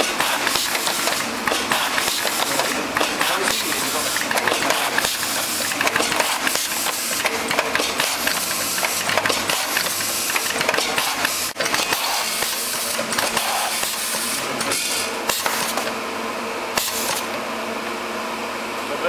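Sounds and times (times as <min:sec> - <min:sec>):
rapid mechanical clicking: 0:00.0 - 0:15.9
labelling machine whirring: 0:00.0 - 0:17.5.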